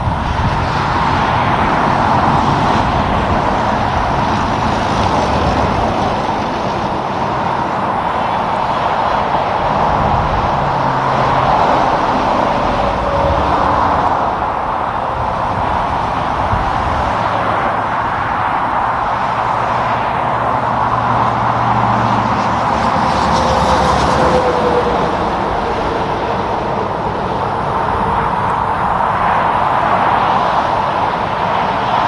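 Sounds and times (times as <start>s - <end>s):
highway traffic rushing: 0.0s - 32.0s
low engine hum: 0.0s - 32.0s.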